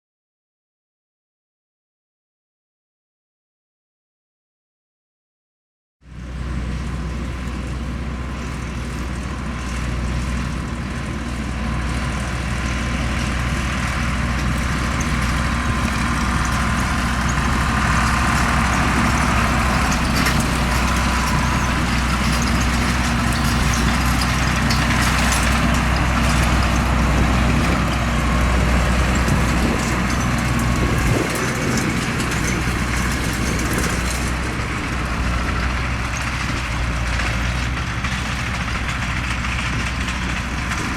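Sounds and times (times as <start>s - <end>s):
tractor engine running: 6.1s - 40.9s.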